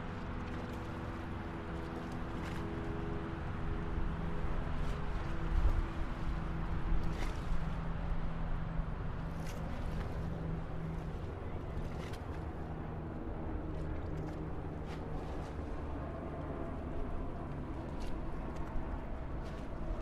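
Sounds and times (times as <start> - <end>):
low hum: 0.0 - 20.0
traffic rumble: 0.0 - 20.0.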